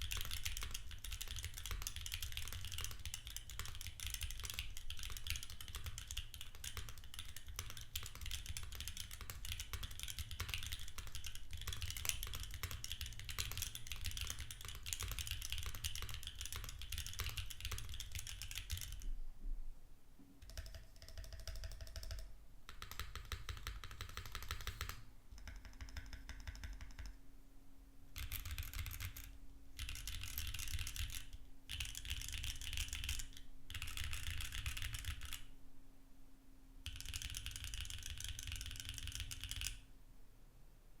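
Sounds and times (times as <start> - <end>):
mechanical keyboard typing: 0.0 - 19.1, 20.4 - 27.2, 28.2 - 35.4, 36.9 - 39.8.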